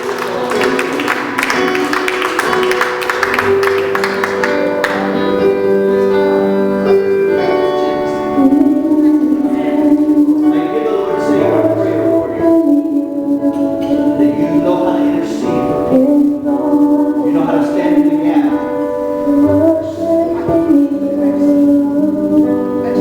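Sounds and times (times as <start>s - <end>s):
person singing: 0.0s - 23.0s
sustained keyboard chords: 0.0s - 23.0s.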